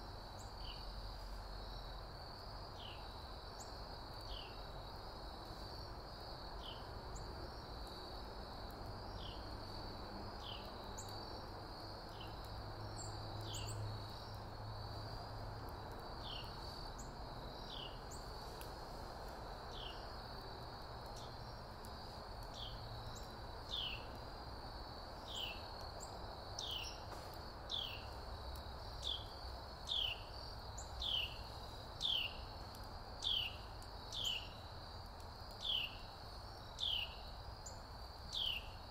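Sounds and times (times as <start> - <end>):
high insect trill: 0.0 - 38.9
low outdoor hum: 0.0 - 38.9
wood fire crackling: 2.3 - 38.9.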